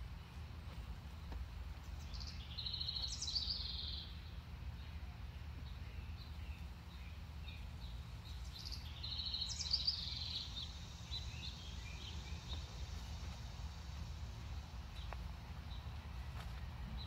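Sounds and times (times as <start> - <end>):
low outdoor rumble: 0.0 - 17.0
small birds chirping: 0.1 - 17.0.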